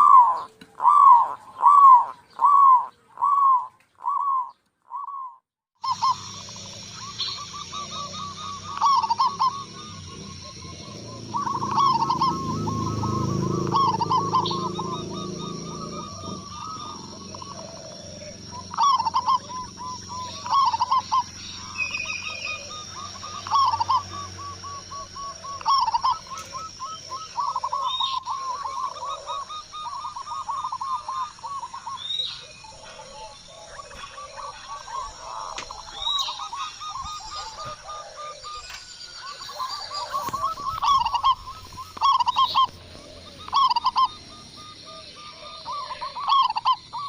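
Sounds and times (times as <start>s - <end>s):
birds chirping: 0.0s - 47.0s
doves cooing: 0.0s - 47.0s.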